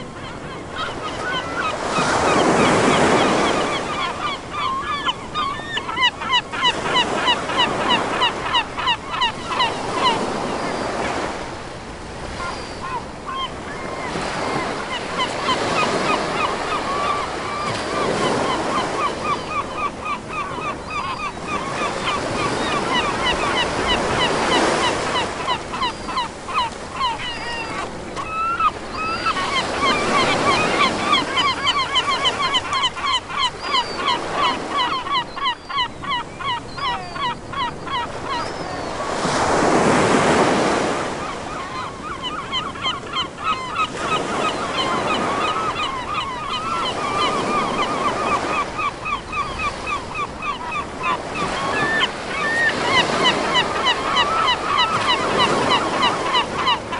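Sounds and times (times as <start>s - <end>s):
gulls calling: 0.0s - 11.5s, 12.2s - 56.9s.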